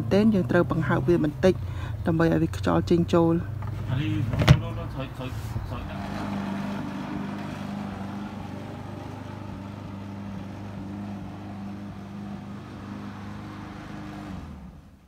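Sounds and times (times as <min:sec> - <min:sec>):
lawn mower running: 0:00.0 - 0:14.9.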